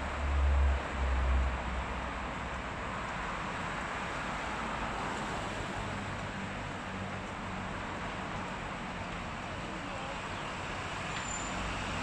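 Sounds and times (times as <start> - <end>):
road traffic tyre hiss: 0.0 - 12.0.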